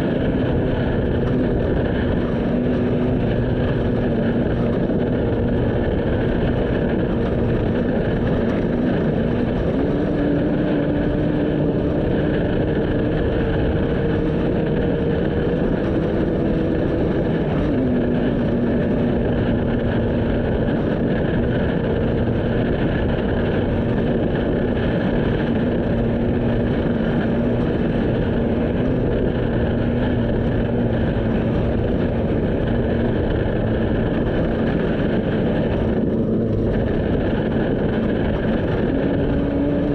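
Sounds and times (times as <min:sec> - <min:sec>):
vehicle engine running: 0:00.0 - 0:39.9
wind and road noise: 0:00.0 - 0:39.9.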